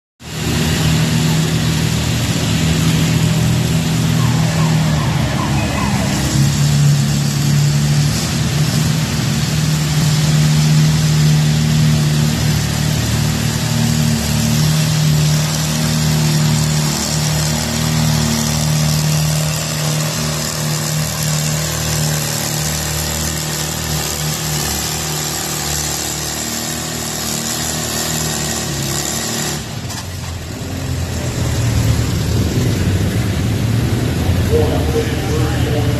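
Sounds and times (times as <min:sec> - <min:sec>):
tractor engine running hard: 0:00.2 - 0:35.9.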